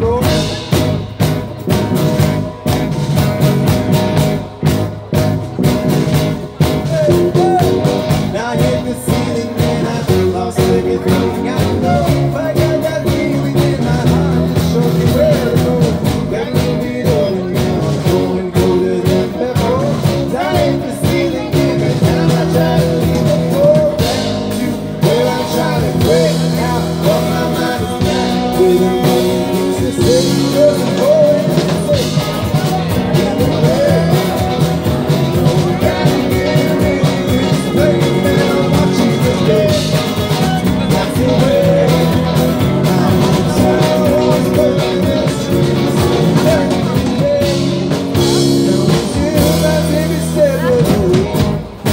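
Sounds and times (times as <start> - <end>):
live rock band playing: 0.0 - 51.9
person singing: 5.6 - 51.9.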